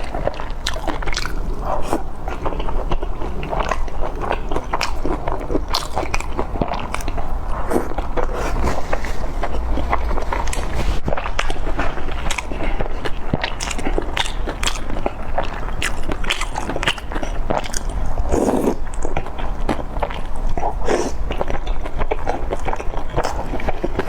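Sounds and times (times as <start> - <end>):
chewing with wet mouth clicks: 0.0 - 24.0.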